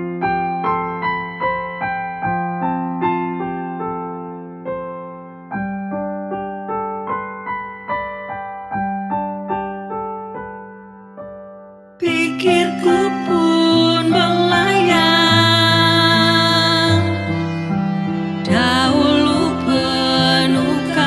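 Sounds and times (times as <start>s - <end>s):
gentle piano ballad: 0.0s - 21.0s.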